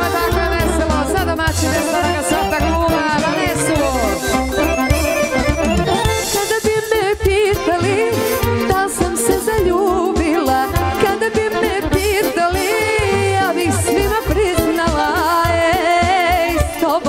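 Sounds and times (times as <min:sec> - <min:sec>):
folk band playing dance music: 0:00.0 - 0:17.0.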